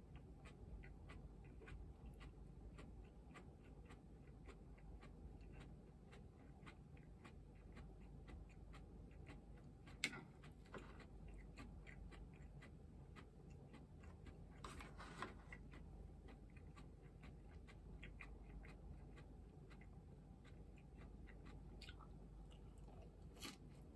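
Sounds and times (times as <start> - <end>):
raw cabbage being chewed: 0.0 - 23.9.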